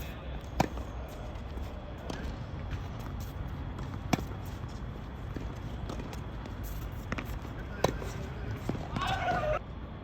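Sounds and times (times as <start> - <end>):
tennis balls hit by racket: 0.0 - 9.6.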